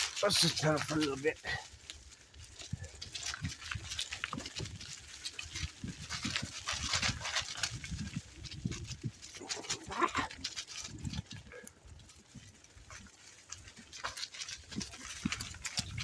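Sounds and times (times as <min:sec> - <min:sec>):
bicycle frame rattling: 0:00.0 - 0:16.0
bicycle tyres crunching leaves: 0:00.0 - 0:16.0.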